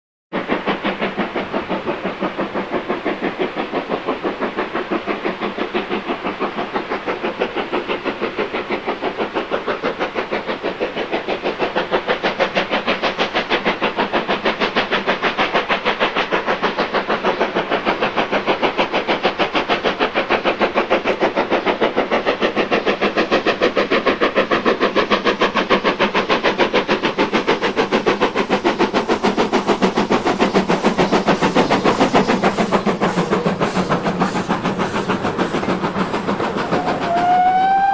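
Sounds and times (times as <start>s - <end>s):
steam locomotive chuffing: 0.3s - 37.9s.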